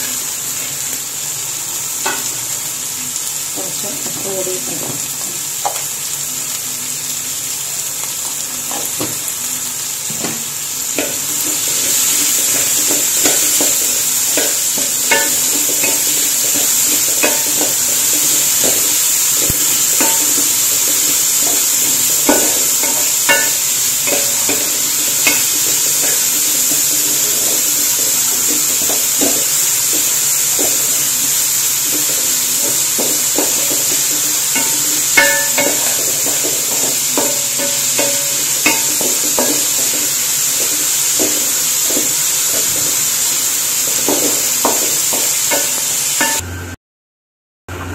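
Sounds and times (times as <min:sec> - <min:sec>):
vegetables sizzling in hot oil: 0:00.0 - 0:46.5.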